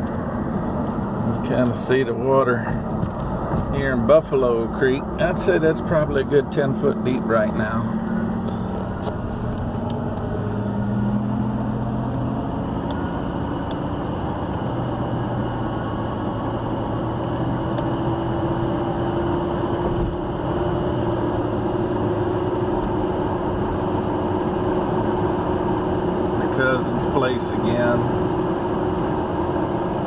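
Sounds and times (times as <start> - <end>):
car engine hum: 0.0 - 30.0
tyre and road noise: 0.0 - 30.0.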